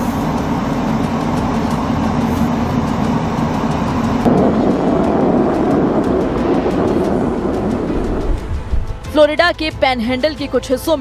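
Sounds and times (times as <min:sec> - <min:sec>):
low rumbling noise: 0:00.0 - 0:09.2.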